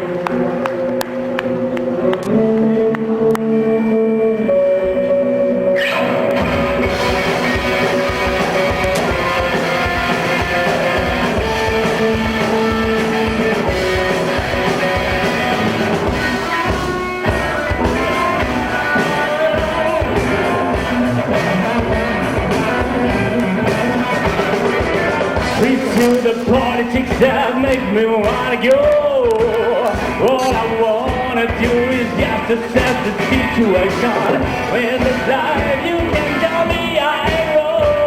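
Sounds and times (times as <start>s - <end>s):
bass guitar: 0.0s - 38.0s
electric guitars: 0.0s - 38.0s
drums on a steady beat: 6.4s - 38.0s.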